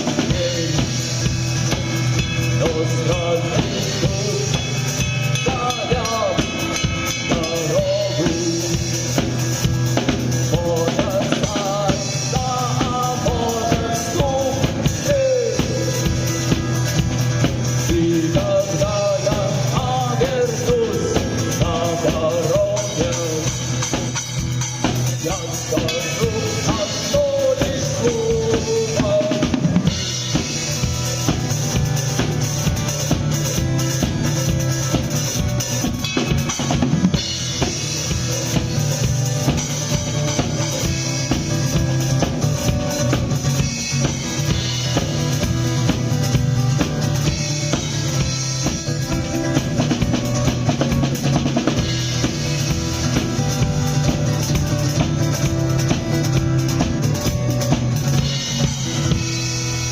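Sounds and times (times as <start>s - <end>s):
bending lead melody: 0.0s - 59.9s
drum kit beat: 0.0s - 59.9s
live rock band playing: 0.0s - 59.9s.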